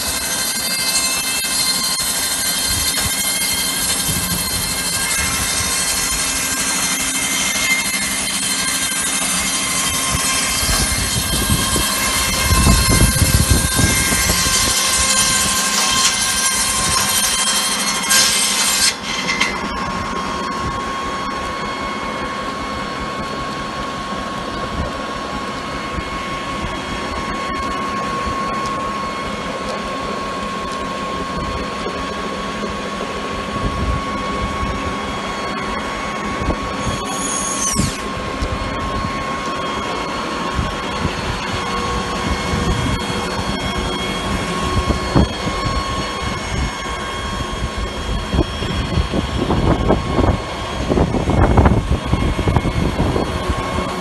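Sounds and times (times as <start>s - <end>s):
circular saw cutting timber: 0.0s - 54.0s
high falling squeal: 0.0s - 54.0s
saw blade spinning with whine: 0.0s - 54.0s.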